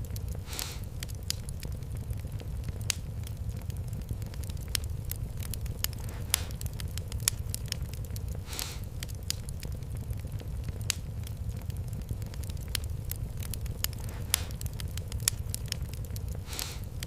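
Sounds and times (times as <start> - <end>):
fire low rumble: 0.0 - 17.0
wood fire crackling: 0.0 - 17.0.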